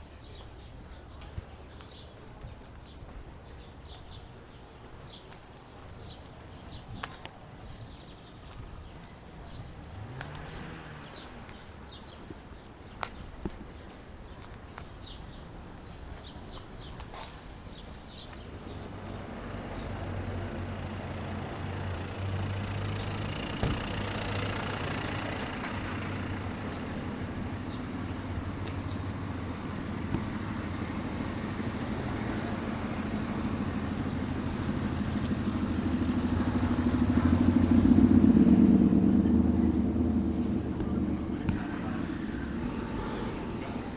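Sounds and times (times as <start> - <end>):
vehicle approaching: 7.7 - 43.9.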